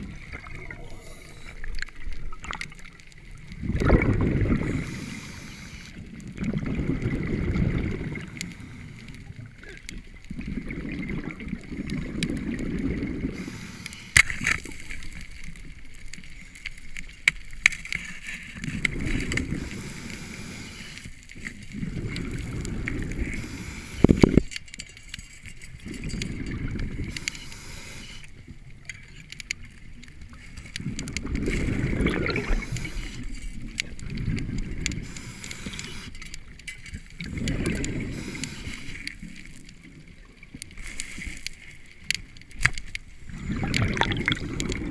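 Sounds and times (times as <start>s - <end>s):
exhaled bubbles rumbling underwater: 0.0s - 13.8s, 18.4s - 24.5s, 25.7s - 28.9s, 29.6s - 42.1s, 43.0s - 44.9s.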